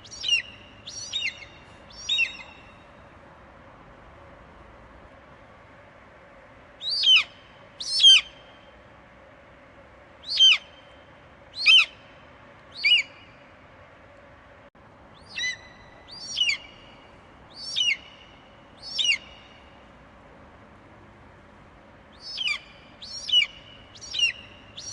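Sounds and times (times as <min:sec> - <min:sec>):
faint steady hiss: 0:00.0 - 0:24.9.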